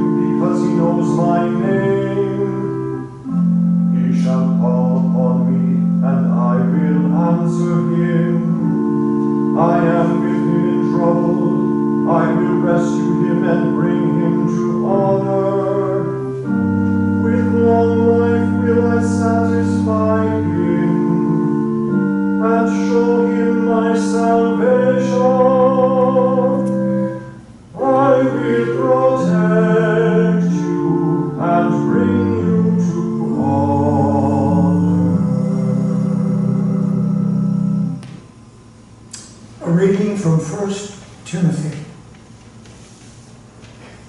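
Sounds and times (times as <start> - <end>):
person singing a psalm: 0.0 - 37.9
church organ chords: 0.0 - 42.2.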